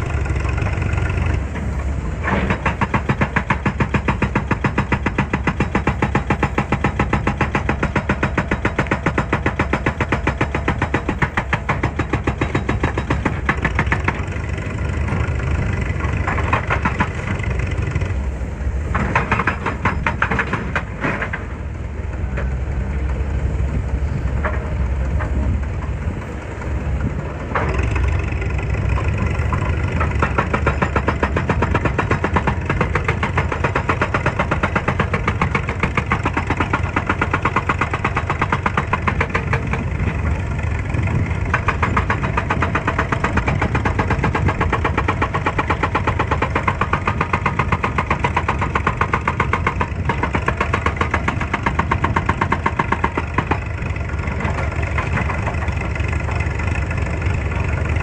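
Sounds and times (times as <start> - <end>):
excavator engine pulsing: 0.0 - 58.0.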